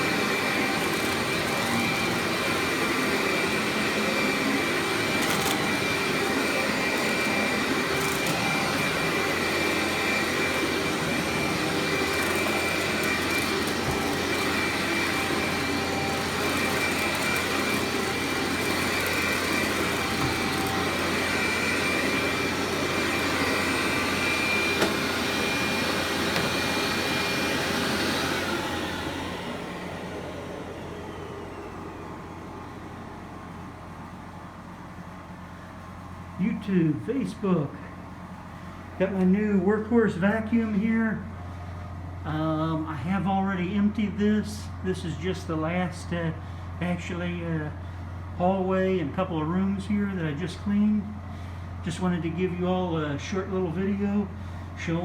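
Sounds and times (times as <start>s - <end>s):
vacuum cleaner motor whining: 0.0s - 44.8s.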